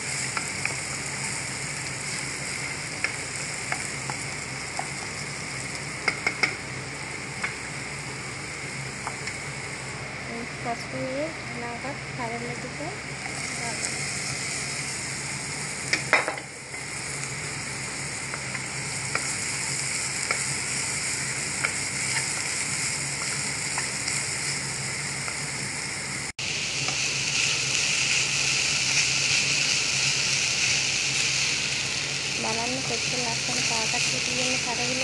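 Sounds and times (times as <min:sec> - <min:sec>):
vegetables sizzling in frying pan: 0:00.0 - 0:35.0.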